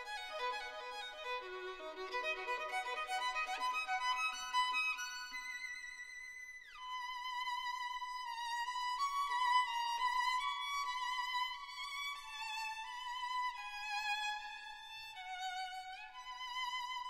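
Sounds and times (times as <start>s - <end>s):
violin melody with vibrato: 0.0s - 17.0s.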